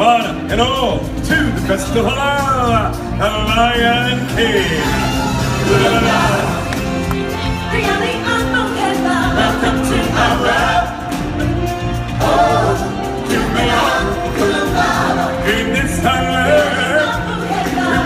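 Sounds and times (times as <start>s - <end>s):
instrumental backing music: 0.0s - 18.0s
chorus singing: 2.8s - 18.0s.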